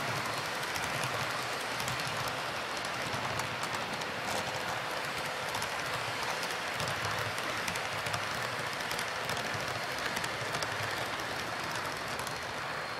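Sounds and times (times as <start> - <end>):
model train wheels rolling: 0.0 - 12.9.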